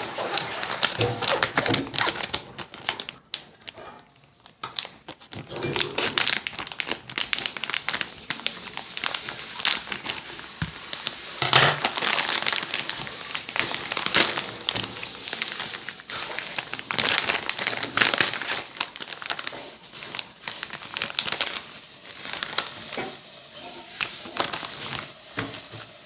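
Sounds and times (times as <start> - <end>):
crumpling crinkling by hand: 0.0 - 26.0.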